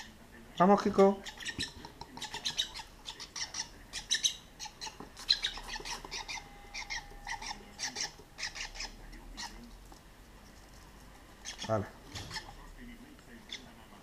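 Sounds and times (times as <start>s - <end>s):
bird chicks squawking: 0.0s - 9.7s, 11.4s - 12.6s, 13.4s - 13.8s.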